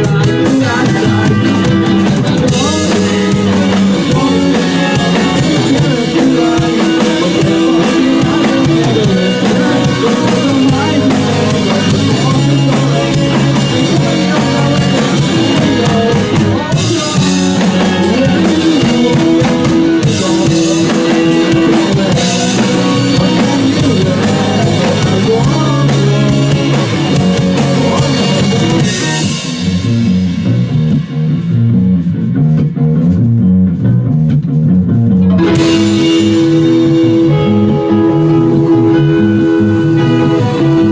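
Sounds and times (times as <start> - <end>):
bass guitar: 0.0 - 40.9
drum kit and cymbals: 0.0 - 40.9
electric guitar: 0.0 - 40.9.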